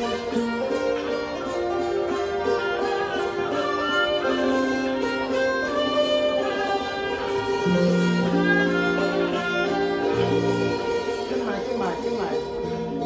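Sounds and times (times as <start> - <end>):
classical ensemble melody: 0.0 - 13.0.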